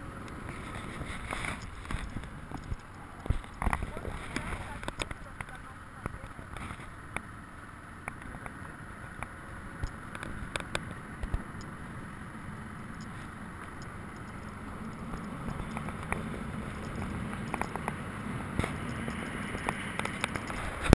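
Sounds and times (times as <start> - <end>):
motorcycle engine and tyre noise: 0.0 - 20.9.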